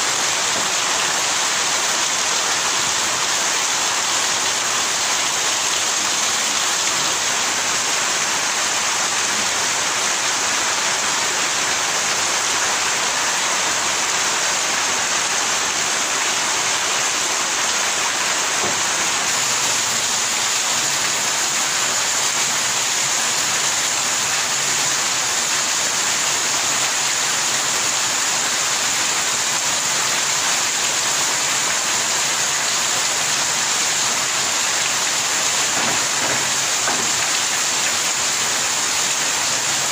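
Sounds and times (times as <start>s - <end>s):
heavy rain on a corrugated roof: 0.0s - 39.9s
water pouring off roof: 0.0s - 39.9s.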